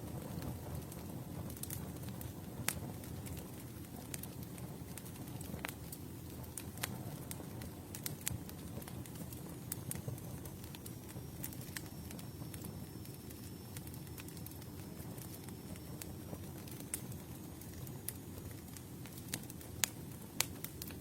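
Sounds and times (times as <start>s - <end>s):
low rumble of flame: 0.0s - 21.0s
wood crackling and popping: 0.0s - 21.0s.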